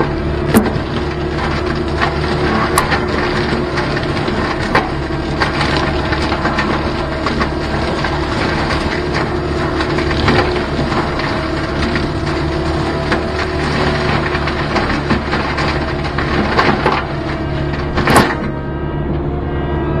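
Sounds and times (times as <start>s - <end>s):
wood splintering cracks: 0.0s - 18.6s
diesel engine and mulcher running: 0.0s - 20.0s.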